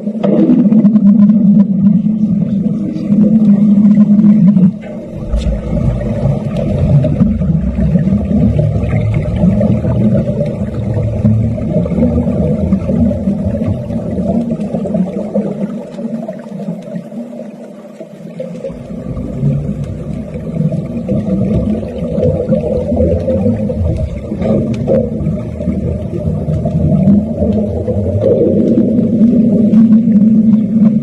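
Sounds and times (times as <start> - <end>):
underwater welding crackle: 0.0 - 31.0.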